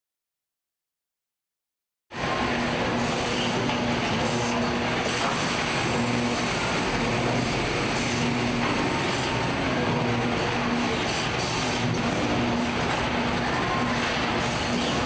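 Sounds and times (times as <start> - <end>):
factory machinery hum: 2.1 - 15.0.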